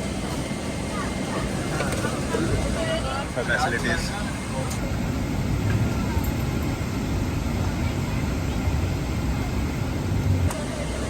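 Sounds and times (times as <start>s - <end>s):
airliner cabin rumble and hiss: 0.0s - 11.0s.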